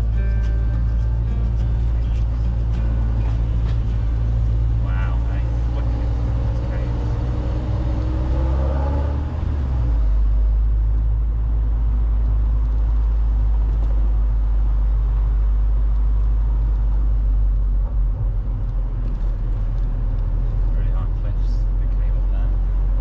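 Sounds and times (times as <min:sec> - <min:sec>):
sports car engine droning: 0:00.0 - 0:23.0.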